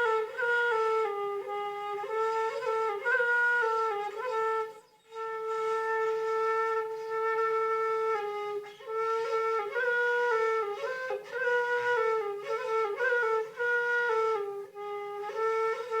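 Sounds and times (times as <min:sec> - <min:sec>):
flute-like melody: 0:00.0 - 0:16.0.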